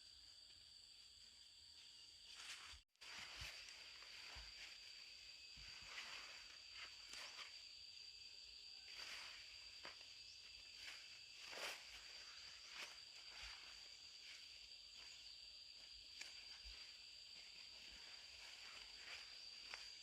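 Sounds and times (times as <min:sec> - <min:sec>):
high-pitched insect drone: 0:00.0 - 0:20.0
soft rustles or footsteps: 0:02.2 - 0:07.6, 0:08.8 - 0:20.0.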